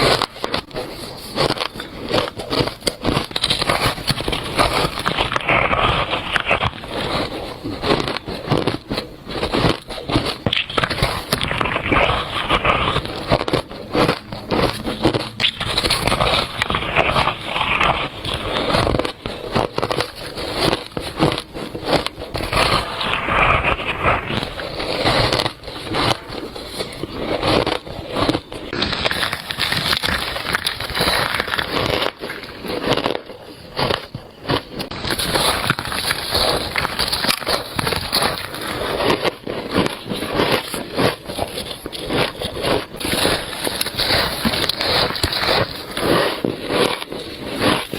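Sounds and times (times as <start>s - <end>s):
crunchy bites into shaved ice: 0.0s - 47.9s.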